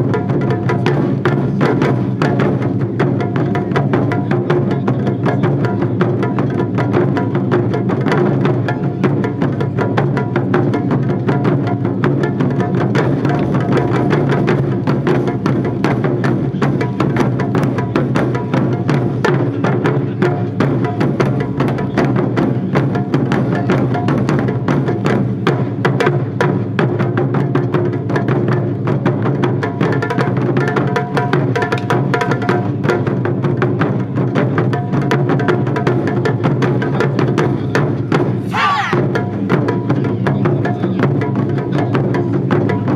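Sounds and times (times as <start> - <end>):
drum ensemble playing fast rhythm: 0.0 - 42.9.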